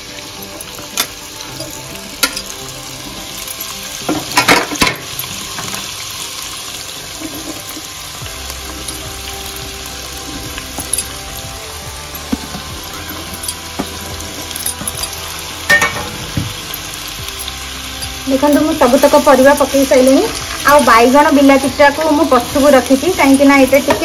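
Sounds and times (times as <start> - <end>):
vegetables sizzling in pot: 0.0 - 24.0.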